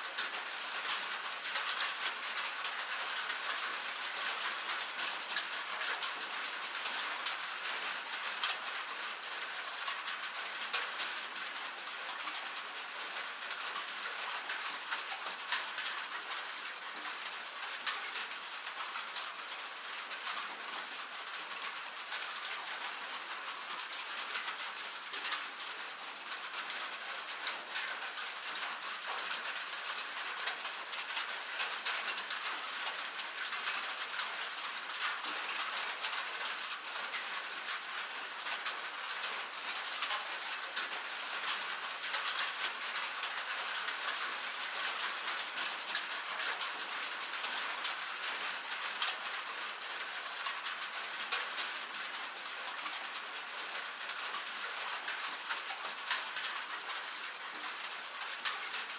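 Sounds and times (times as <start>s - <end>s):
rain on a metal roof: 0.0s - 58.9s.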